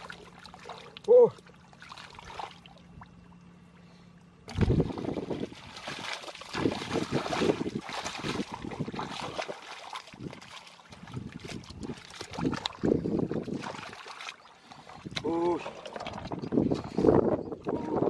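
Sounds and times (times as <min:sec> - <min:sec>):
muddy water splashing: 0:00.0 - 0:18.0.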